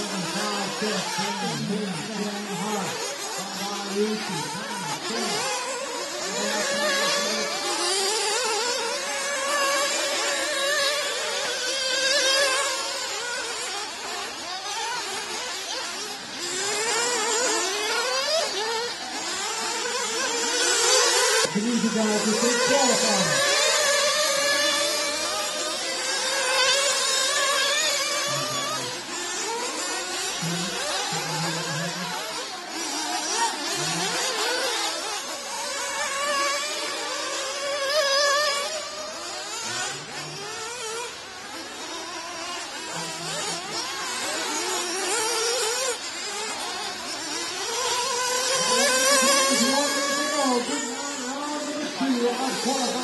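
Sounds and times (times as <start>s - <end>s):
rc car engines buzzing: 0.0s - 53.0s.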